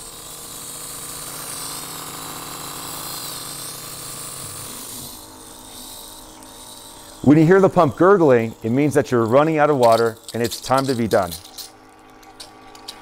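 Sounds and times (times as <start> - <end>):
electric water pump humming: 0.0 - 13.0.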